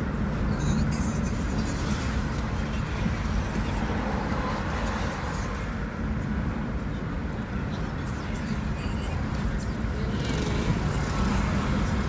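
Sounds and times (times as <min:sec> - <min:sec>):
car engine and tyres rumbling: 0:00.0 - 0:12.0
surrounding traffic: 0:00.0 - 0:12.0.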